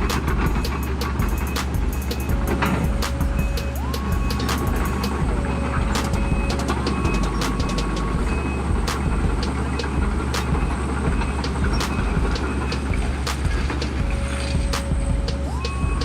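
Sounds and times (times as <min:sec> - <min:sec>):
excavator diesel engine under load: 0:00.0 - 0:16.0
high whine: 0:00.0 - 0:16.0.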